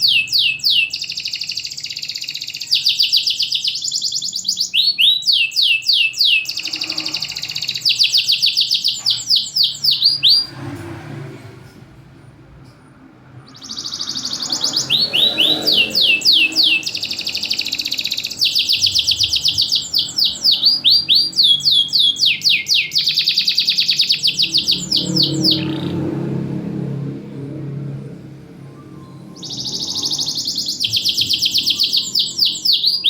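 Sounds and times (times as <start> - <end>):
canary singing: 0.0 - 10.8, 13.4 - 33.0.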